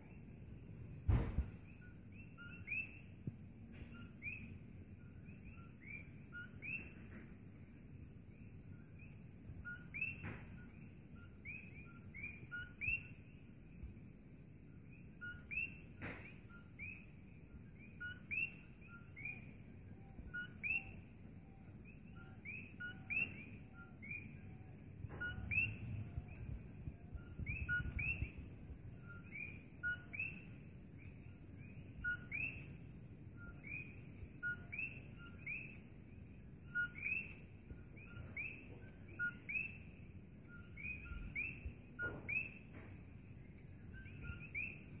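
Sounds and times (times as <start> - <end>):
steady high-pitched whine: 0.0 - 45.0
frogs calling: 1.1 - 3.1, 3.9 - 7.1, 8.8 - 13.4, 14.9 - 45.0.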